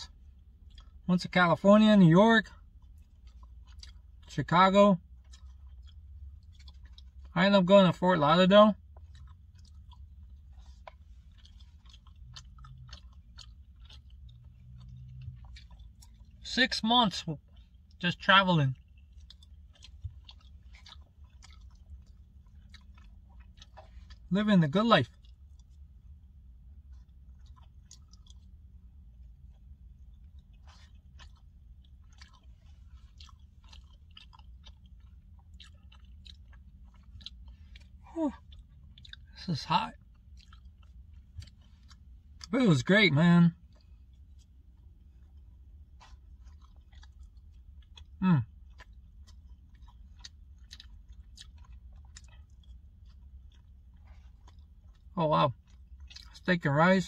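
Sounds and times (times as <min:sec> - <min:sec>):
man chewing food: 0:00.0 - 0:01.1, 0:02.0 - 0:07.4, 0:08.2 - 0:42.9, 0:43.5 - 0:56.8
low steady hum: 0:00.0 - 0:57.0.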